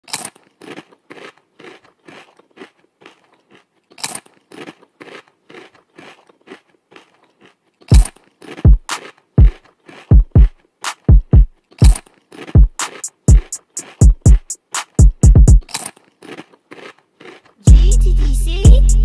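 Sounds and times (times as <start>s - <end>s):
crisp crunching bites: 0.0s - 11.0s, 11.6s - 14.0s, 15.6s - 17.6s.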